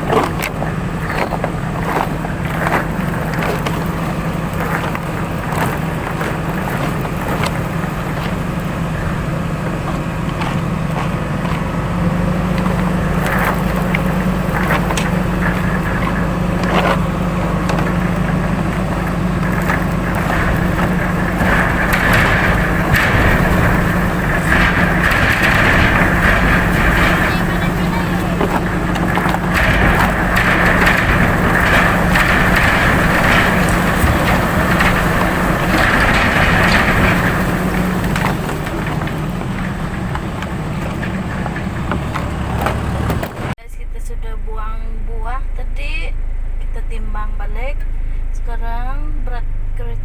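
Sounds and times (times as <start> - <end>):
knocks and clatter: 0.0 - 43.6
engine running: 0.0 - 50.0.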